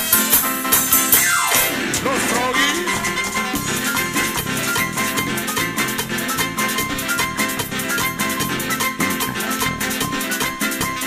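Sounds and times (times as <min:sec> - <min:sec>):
live dance band playing: 0:00.0 - 0:11.0
tone sliding downward: 0:00.9 - 0:11.0.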